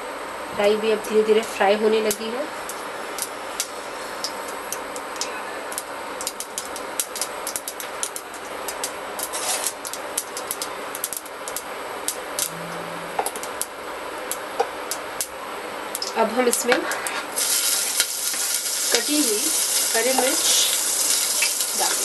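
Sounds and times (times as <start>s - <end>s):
seeds sizzling and popping in oil: 1.0s - 12.5s, 14.3s - 22.0s.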